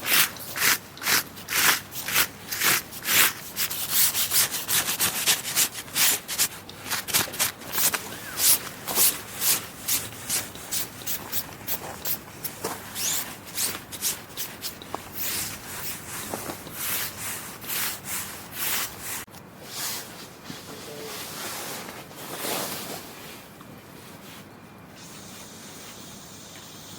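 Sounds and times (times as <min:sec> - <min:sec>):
soft hissing rubs: 0:00.1 - 0:26.9.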